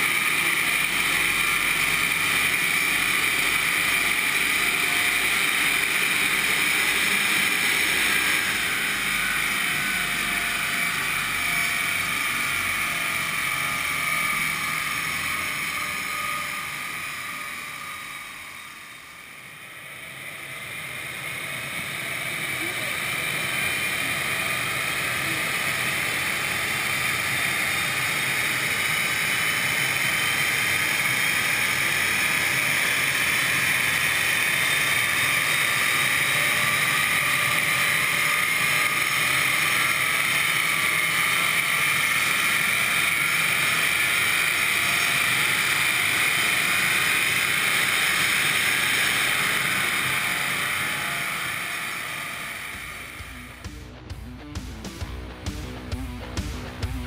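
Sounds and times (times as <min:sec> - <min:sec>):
dynamometer rollers and tyres spinning: 0:00.0 - 0:53.7.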